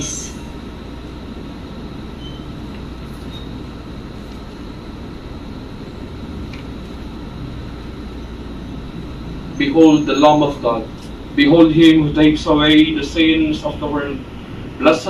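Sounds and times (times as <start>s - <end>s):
air conditioner hum: 0.0s - 15.0s.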